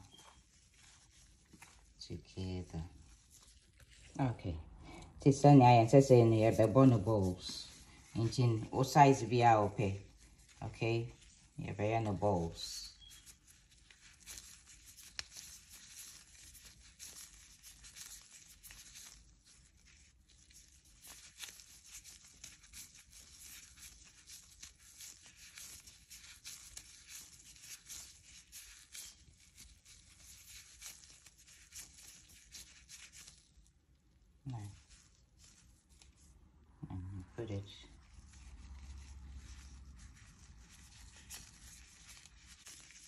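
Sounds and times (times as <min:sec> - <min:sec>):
plastic gloves crinkling: 0:00.0 - 0:43.0.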